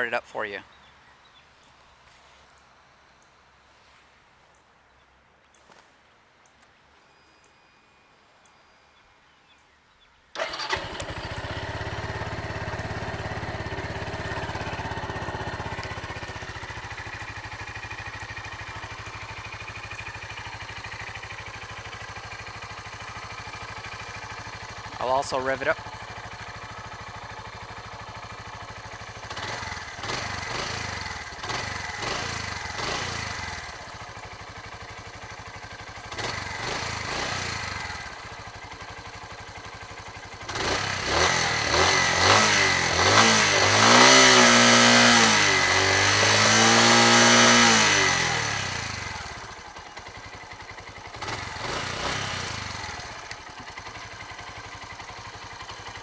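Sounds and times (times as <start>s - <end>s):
motorcycle engine idling and revving: 10.4s - 56.0s.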